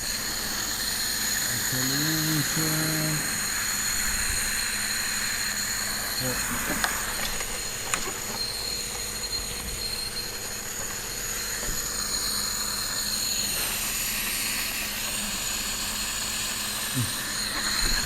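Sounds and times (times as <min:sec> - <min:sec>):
machine hissing and whining: 0:00.0 - 0:18.0.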